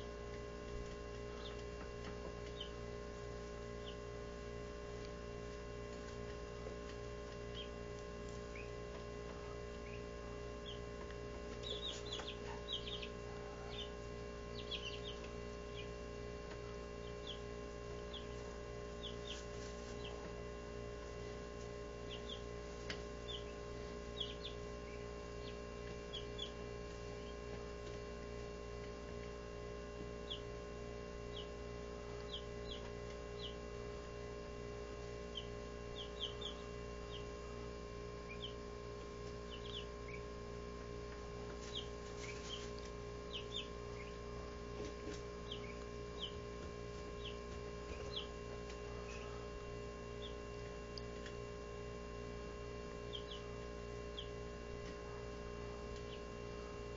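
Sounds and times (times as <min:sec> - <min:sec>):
steady hum: 0:00.0 - 0:56.9
chicks peeping: 0:00.2 - 0:51.4, 0:52.9 - 0:56.9.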